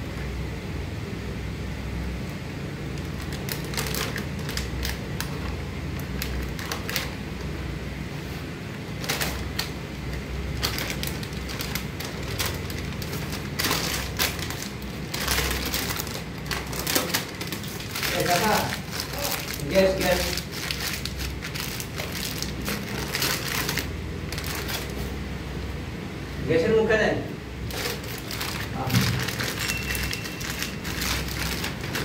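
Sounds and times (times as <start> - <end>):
steady low hum: 0.0 - 32.0
plastic sheeting crinkling: 2.9 - 25.2, 27.6 - 32.0.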